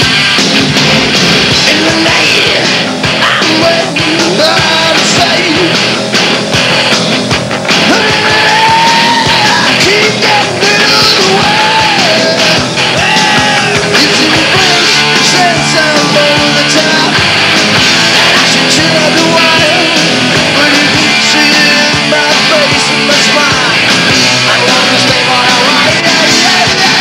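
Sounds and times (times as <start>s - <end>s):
hard rock band playing live: 0.0s - 27.0s
man singing: 1.5s - 5.9s, 7.8s - 17.2s, 18.0s - 27.0s.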